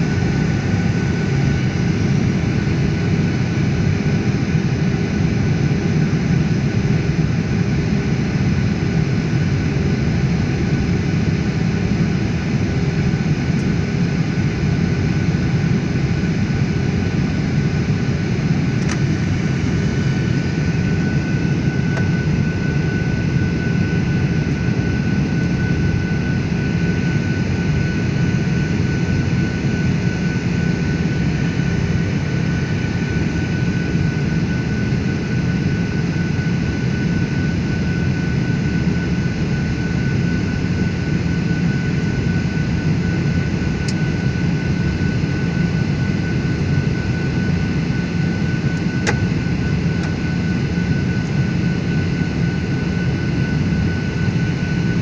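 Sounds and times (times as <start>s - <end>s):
jet engine and airflow rumble: 0.0s - 55.0s
thin steady whine: 0.0s - 55.0s.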